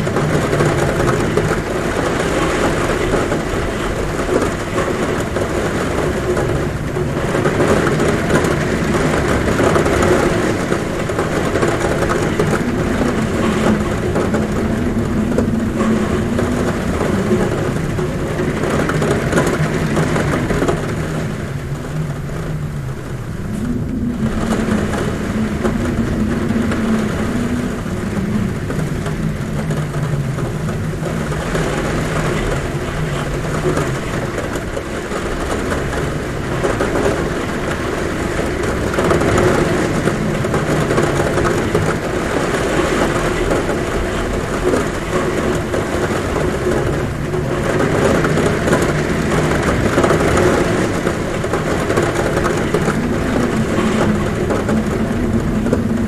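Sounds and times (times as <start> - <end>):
heavy rain on a roof: 0.0 - 56.0
low humming wind: 0.0 - 56.0.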